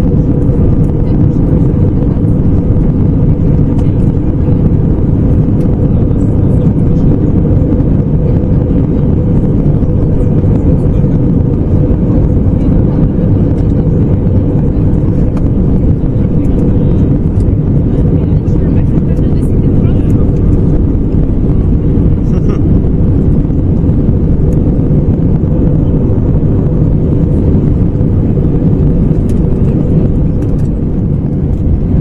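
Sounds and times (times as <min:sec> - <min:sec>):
airliner cabin noise in flight: 0:00.0 - 0:32.0.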